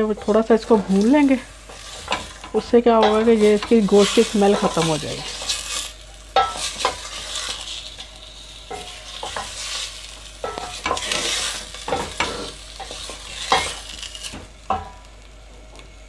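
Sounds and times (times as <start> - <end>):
chicken sizzling in oil: 0.0 - 15.3.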